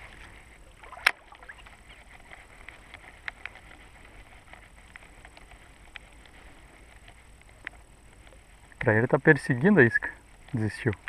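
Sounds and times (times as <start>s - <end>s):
faint reel ticks: 0.1s - 11.0s.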